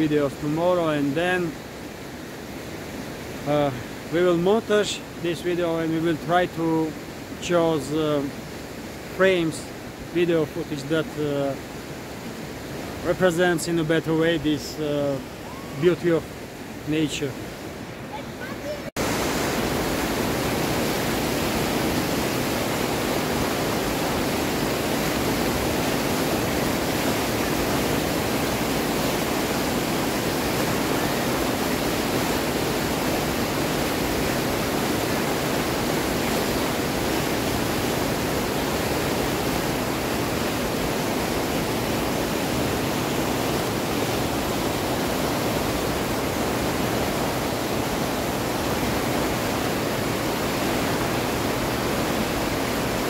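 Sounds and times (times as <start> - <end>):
rushing mountain river: 0.0 - 53.0.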